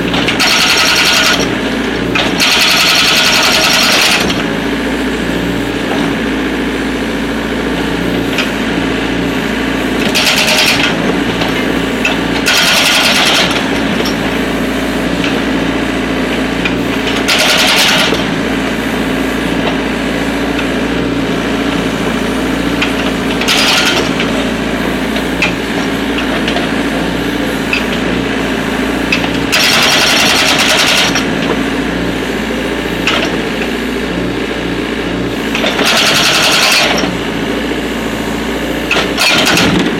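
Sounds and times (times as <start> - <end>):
hydraulic breaker hammering: 0.0 - 4.7, 8.0 - 39.9
excavator engine: 0.0 - 39.9.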